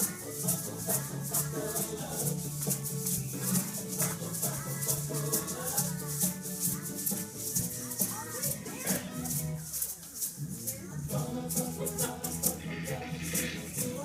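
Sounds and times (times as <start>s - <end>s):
recorded music with bass line: 0.0s - 9.8s, 10.4s - 14.0s
hand shakers rattling: 0.0s - 14.0s.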